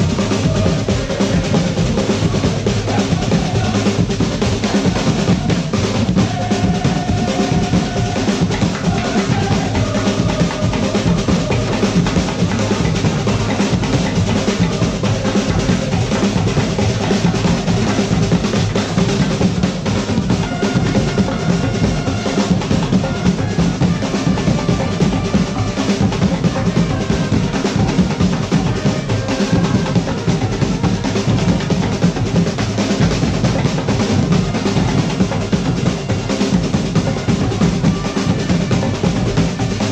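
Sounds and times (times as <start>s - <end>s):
drum band playing: 0.0s - 39.9s.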